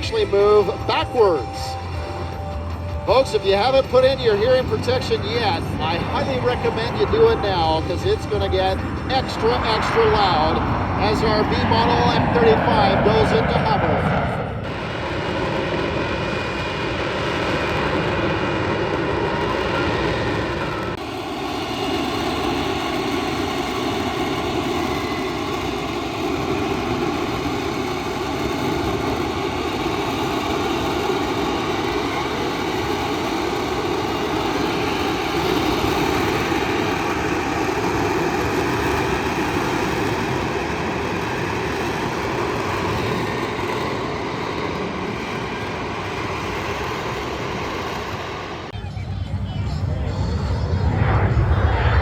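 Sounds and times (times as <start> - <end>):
jet engine roaring: 0.0 - 52.0.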